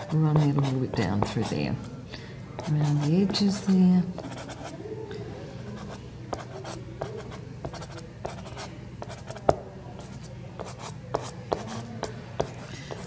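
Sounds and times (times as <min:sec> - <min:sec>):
pastel scratching on paper: 0:00.0 - 0:01.6, 0:02.6 - 0:04.7, 0:05.7 - 0:13.0.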